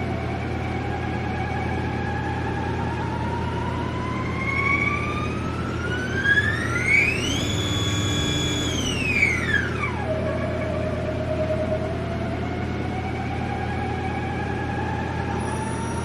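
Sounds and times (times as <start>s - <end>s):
lathe spindle motor whining: 0.0s - 16.0s
low machine hum: 0.0s - 16.0s.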